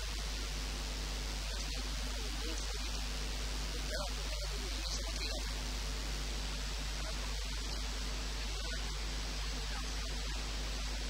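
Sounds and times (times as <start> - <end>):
constant low hum: 0.0 - 11.0
steady hiss: 0.0 - 11.0.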